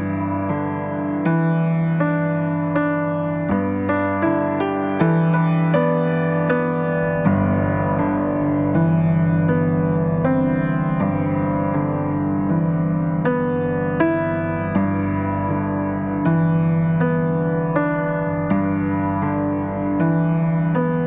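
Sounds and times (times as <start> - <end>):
electric piano chords: 0.0 - 21.0.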